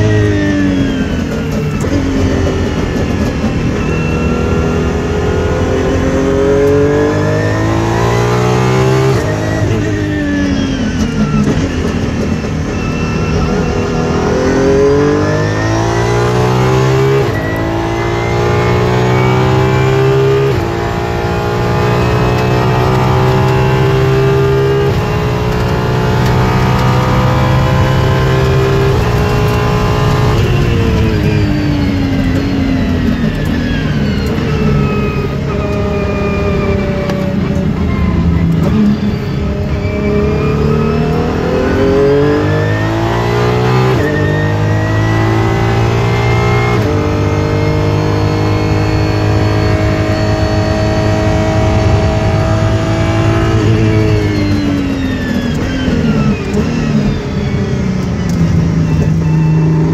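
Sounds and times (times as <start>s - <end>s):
car engine revving: 0.0s - 59.9s
quick gear changes: 8.3s - 59.9s.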